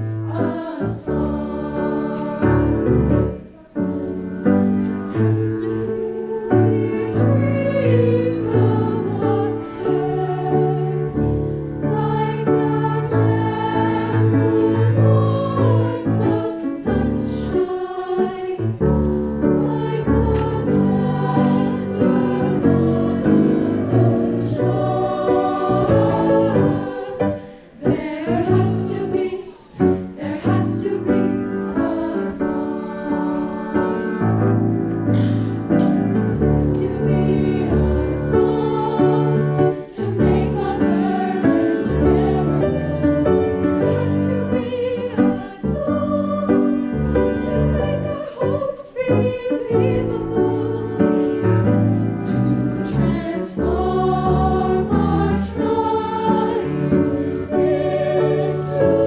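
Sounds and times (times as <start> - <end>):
treble choir singing: 0.0 - 59.0.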